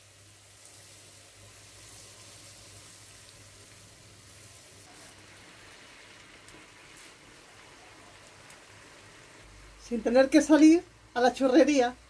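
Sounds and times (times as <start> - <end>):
dough frying in hot oil: 0.0 - 12.0.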